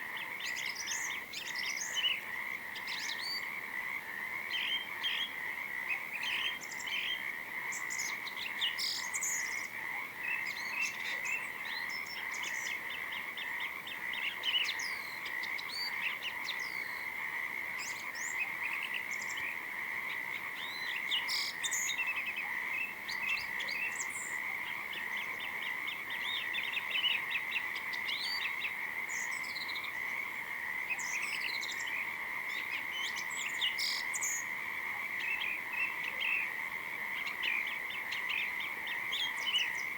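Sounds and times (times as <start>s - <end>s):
frogs chorus: 0.0s - 39.9s.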